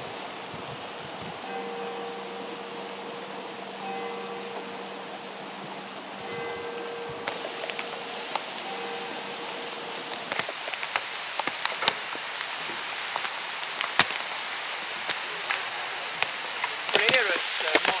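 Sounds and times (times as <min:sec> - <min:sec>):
raindrops tapping: 0:00.0 - 0:18.0
steady rain hiss: 0:00.0 - 0:18.0.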